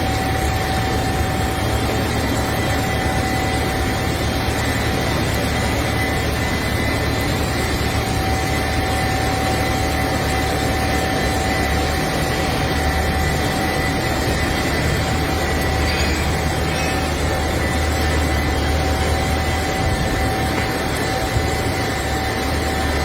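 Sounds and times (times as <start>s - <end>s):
constant engine whine: 0.0s - 23.0s
crane diesel engine running: 0.0s - 23.0s.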